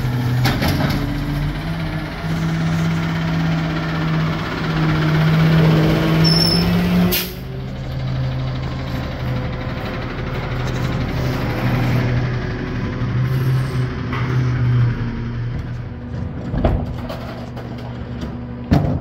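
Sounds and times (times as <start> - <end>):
garbage truck engines humming: 0.0 - 19.0.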